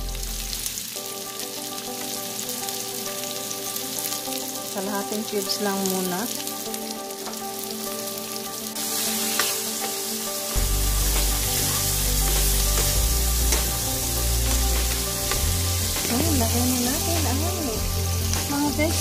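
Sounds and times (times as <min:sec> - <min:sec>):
meat and onion sizzling in oil: 0:00.0 - 0:19.0.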